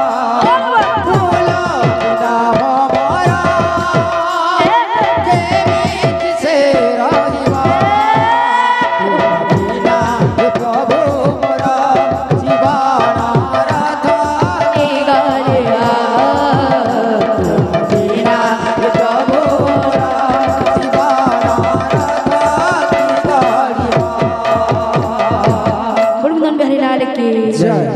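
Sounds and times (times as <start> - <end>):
fast hand drum playing: 0.0 - 27.2
held melody line: 0.0 - 27.9
voices singing: 0.0 - 27.9.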